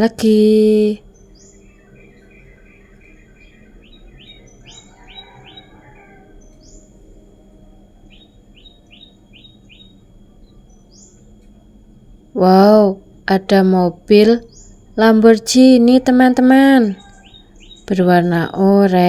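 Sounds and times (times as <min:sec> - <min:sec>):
small bird chirping: 0:00.0 - 0:11.8, 0:12.4 - 0:19.0.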